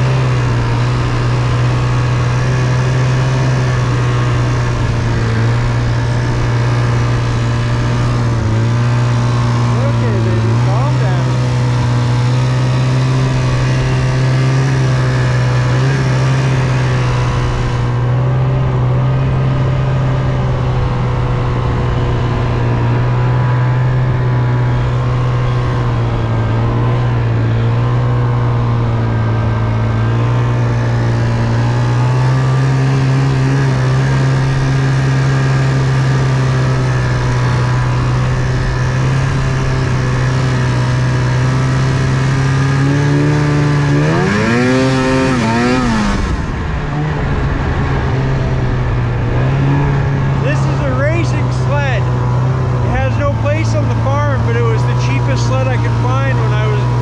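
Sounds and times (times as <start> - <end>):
small vehicle engine running: 0.0 - 57.0.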